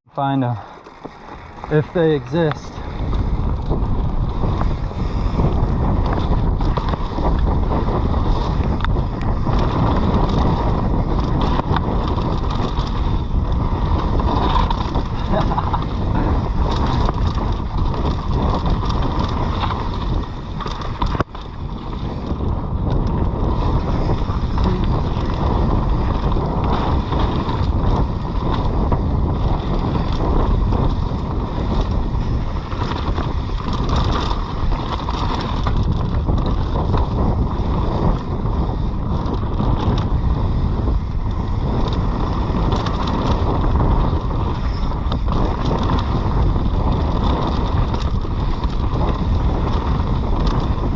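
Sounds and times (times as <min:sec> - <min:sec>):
bike rattling on dirt trail: 0:00.1 - 0:50.9
wind buffeting microphone: 0:00.1 - 0:50.9.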